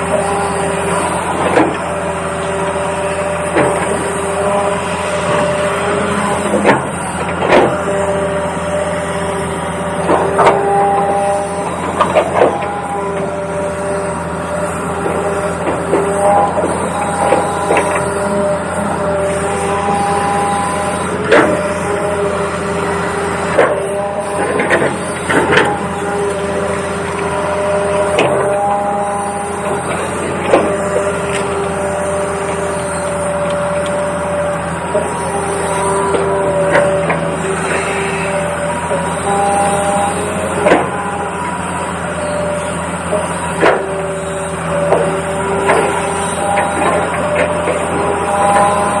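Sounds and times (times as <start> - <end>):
small electric motors whining: 0.0 - 49.0.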